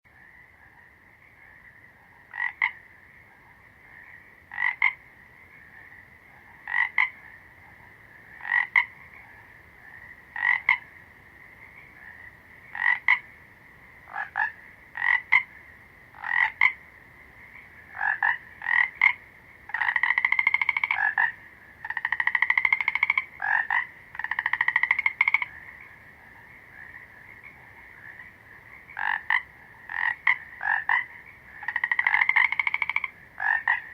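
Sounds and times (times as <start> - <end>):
frogs croaking: 0.1 - 33.9.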